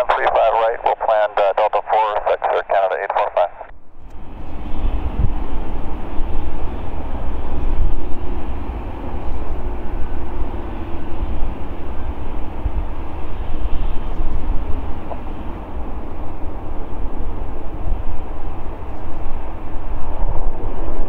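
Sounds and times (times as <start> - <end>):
distant jet engine rumble: 0.0 - 21.0
wind rumble on microphone: 3.9 - 21.0.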